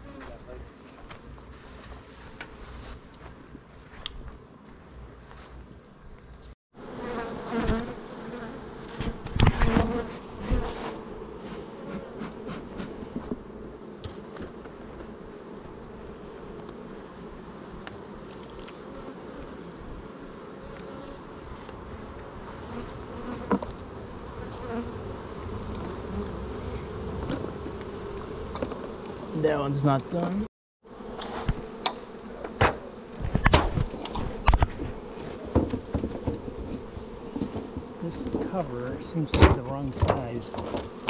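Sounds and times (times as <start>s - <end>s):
honeybees buzzing: 6.8s - 41.0s.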